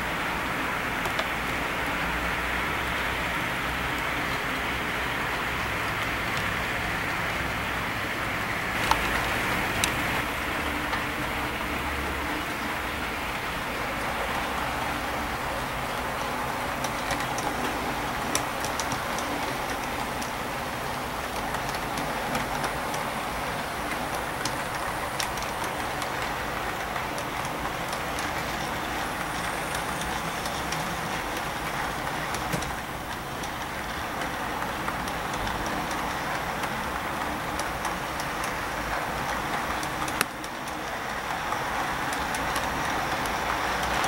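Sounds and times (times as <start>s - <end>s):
model train wheels rolling on rails: 0.0s - 44.0s.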